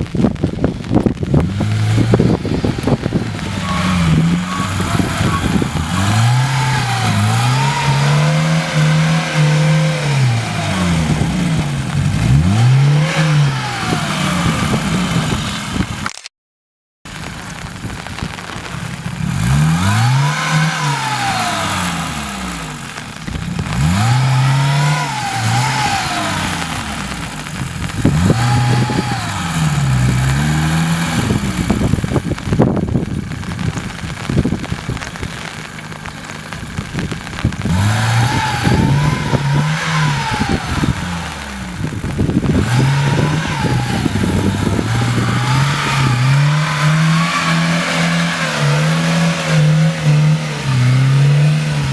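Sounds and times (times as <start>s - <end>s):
car engine revving: 0.0s - 16.0s, 17.5s - 51.9s.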